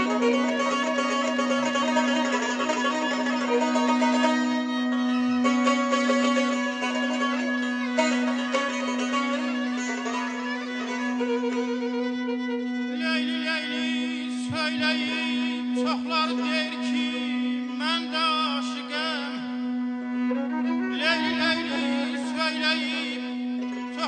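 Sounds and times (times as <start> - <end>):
bowed fiddle melody with vibrato: 0.0 - 24.0
steady low drone: 0.0 - 24.0.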